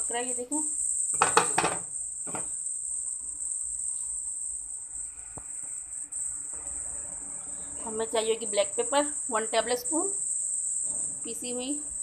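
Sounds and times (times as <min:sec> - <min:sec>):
high-pitched whine: 0:01.9 - 0:12.0.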